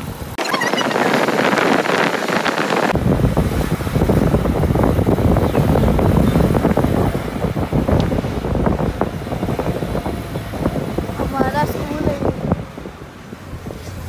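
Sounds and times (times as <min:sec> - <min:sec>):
vehicle road and engine noise: 0:00.0 - 0:14.0
wind rumbling on microphone: 0:00.0 - 0:14.0.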